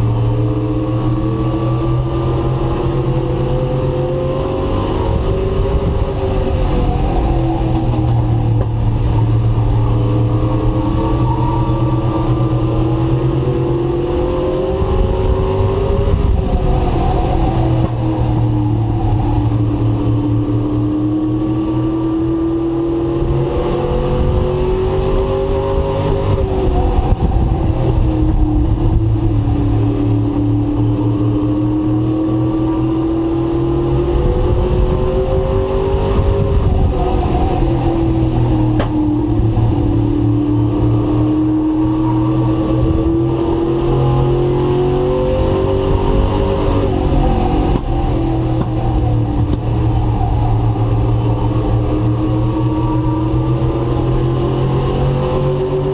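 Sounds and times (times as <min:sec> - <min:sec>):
truck engine at high revs: 0:00.0 - 0:55.9.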